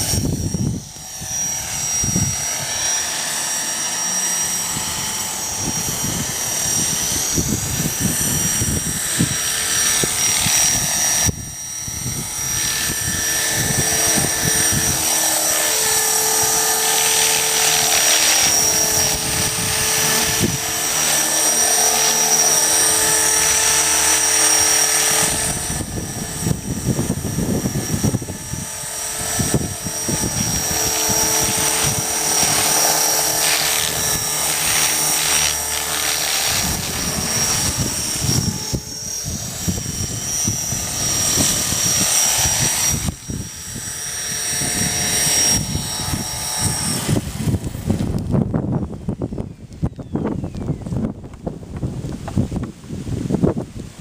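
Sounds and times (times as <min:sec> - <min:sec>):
machine drone: 0:00.0 - 0:51.1
high whine: 0:00.0 - 0:53.9.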